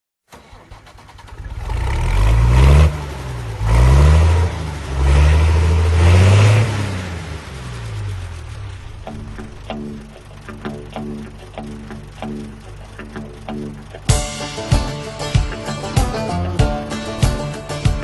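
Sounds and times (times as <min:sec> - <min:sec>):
vehicle engine revving: 0:00.3 - 0:18.0.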